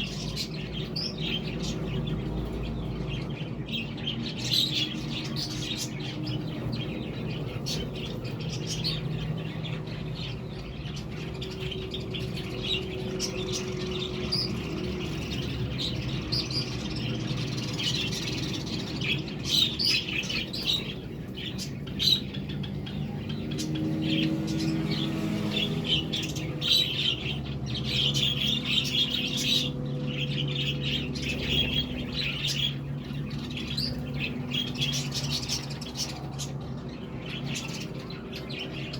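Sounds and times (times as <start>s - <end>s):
budgies chattering: 0.0s - 38.9s.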